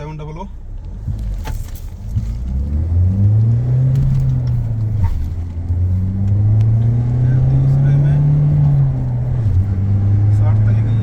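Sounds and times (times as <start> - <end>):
car engine accelerating hard: 0.8 - 11.0.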